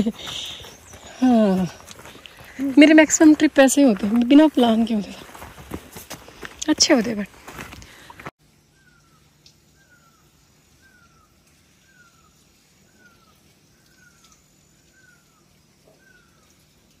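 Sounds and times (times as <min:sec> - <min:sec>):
forest background: 0:00.0 - 0:17.0.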